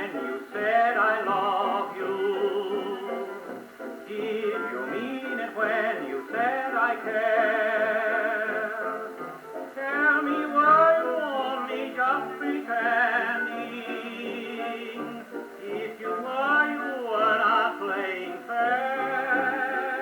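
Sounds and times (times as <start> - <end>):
dance band record on phonograph: 0.0 - 20.0.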